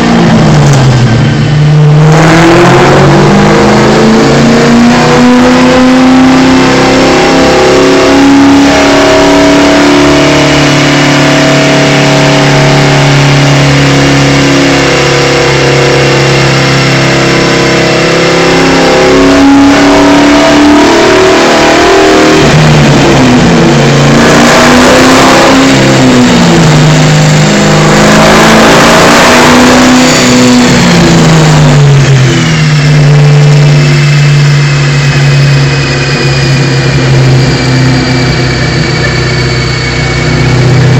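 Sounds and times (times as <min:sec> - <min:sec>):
car engine revving on a dyno: 0:00.0 - 0:40.9.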